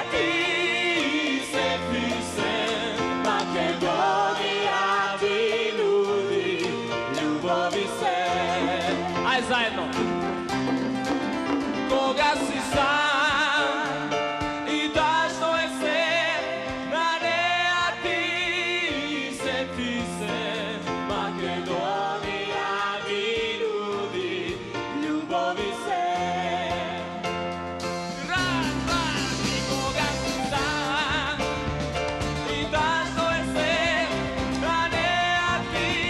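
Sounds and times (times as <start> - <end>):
man singing with vibrato: 0.0 - 10.4, 11.7 - 27.4, 28.2 - 36.0
bass guitar: 0.0 - 36.0
unplugged rock band: 0.0 - 36.0.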